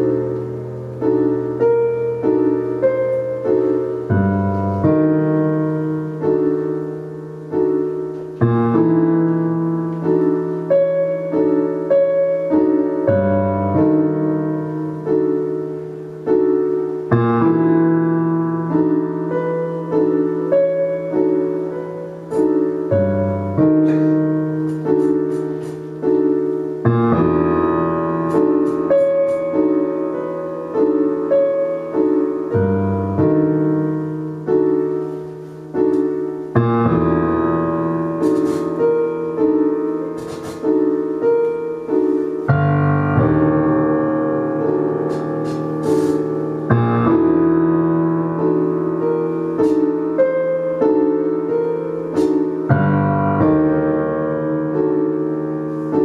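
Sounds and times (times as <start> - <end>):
slow piano-like chords: 0.0 - 56.0.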